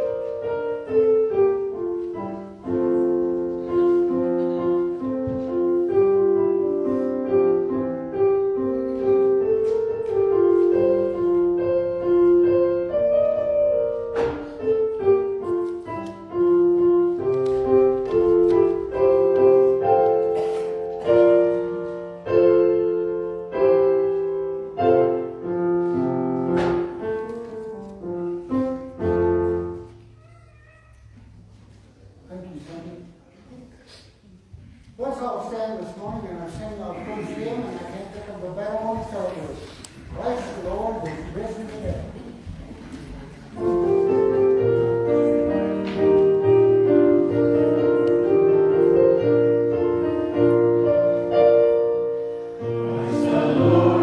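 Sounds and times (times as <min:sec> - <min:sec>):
slow piano piece: 0:00.0 - 0:32.3, 0:35.5 - 0:54.0.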